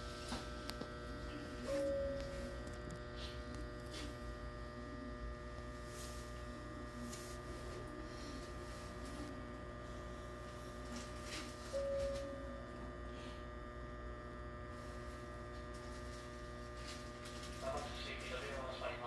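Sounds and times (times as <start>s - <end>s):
electrical hum of standing train: 0.0s - 19.0s.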